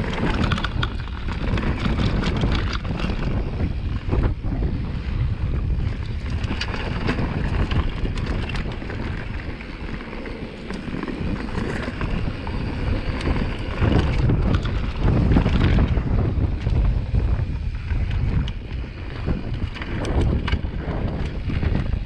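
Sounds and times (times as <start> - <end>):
bike clicks and rattles: 0.0 - 22.0
tyres on dirt and rock: 0.0 - 22.0
wind buffeting microphone: 0.0 - 22.0.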